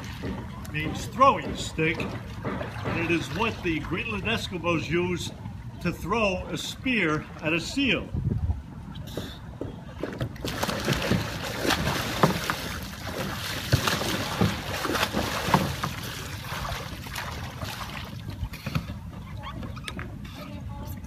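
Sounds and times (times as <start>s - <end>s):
water splashing around a kayak: 0.0s - 21.0s.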